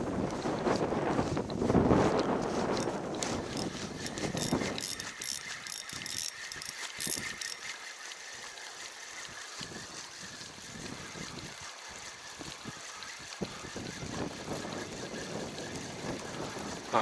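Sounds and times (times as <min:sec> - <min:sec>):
fishing reel gears whirring: 0:00.0 - 0:17.0.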